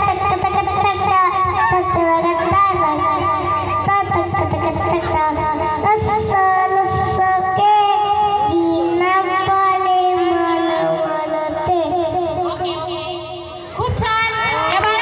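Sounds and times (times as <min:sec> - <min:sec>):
boy singing into a microphone: 0:00.0 - 0:14.3.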